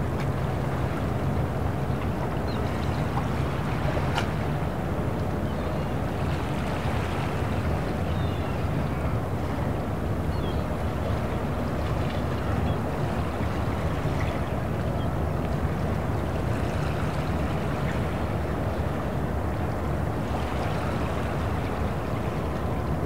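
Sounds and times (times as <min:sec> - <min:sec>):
boat engines rumbling: 0:00.0 - 0:23.0.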